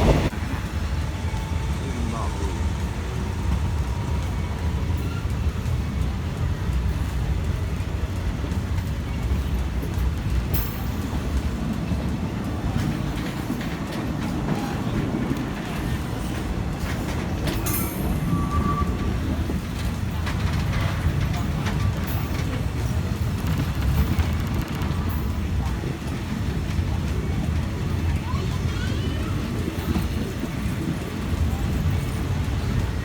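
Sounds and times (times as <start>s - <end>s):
train carriage rumble: 0.0s - 33.0s
train wheel clatter: 0.0s - 33.0s.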